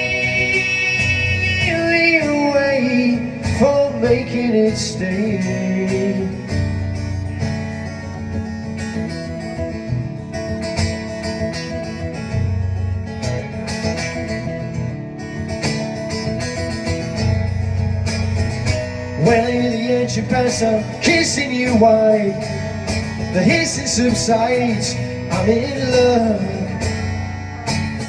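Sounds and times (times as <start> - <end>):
acoustic guitar strummed and picked: 0.0 - 28.0.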